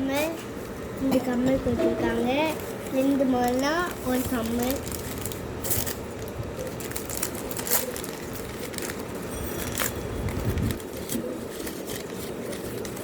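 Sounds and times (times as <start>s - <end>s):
paper and plastic wrapping crinkling: 2.1s - 13.0s.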